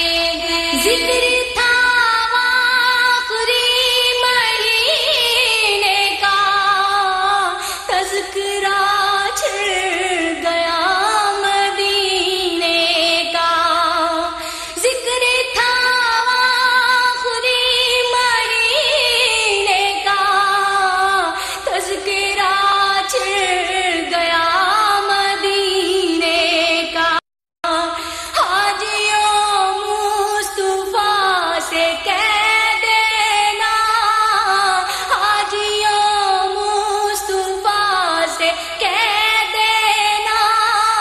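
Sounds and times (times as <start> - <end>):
person singing devotional melody: 0.0 - 41.0.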